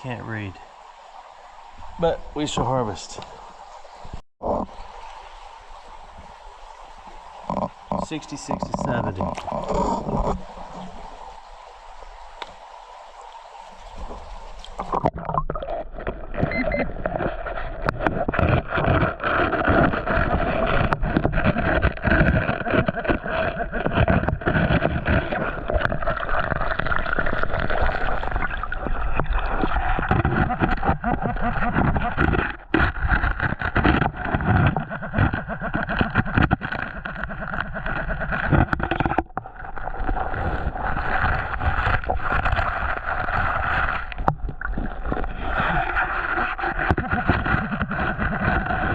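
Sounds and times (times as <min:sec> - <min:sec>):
water sloshing and churning: 0:00.0 - 0:48.9.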